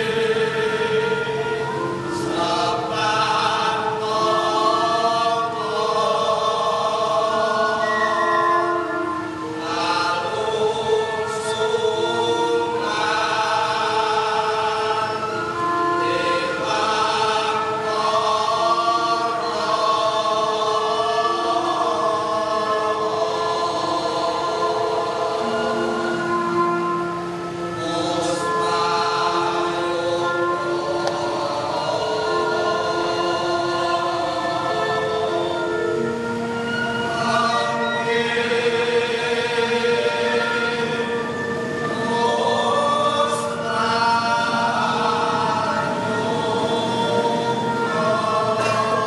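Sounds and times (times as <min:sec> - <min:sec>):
female and male singers: 0:00.0 - 0:49.0
gamelan ensemble: 0:00.0 - 0:49.0.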